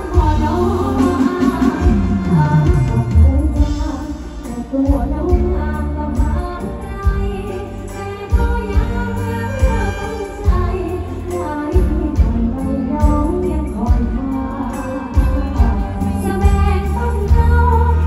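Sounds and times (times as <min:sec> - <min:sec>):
band bass and drum beat: 0:00.0 - 0:18.0
woman singing into a microphone: 0:00.0 - 0:18.0.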